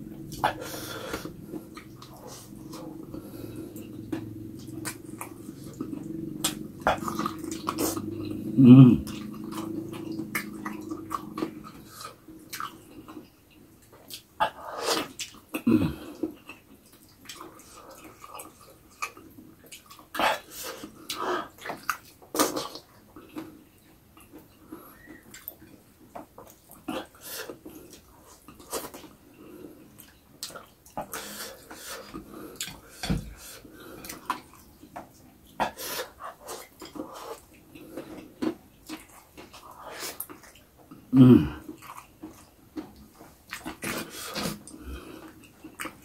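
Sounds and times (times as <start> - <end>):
wet chewing and slurping: 0.1 - 46.0.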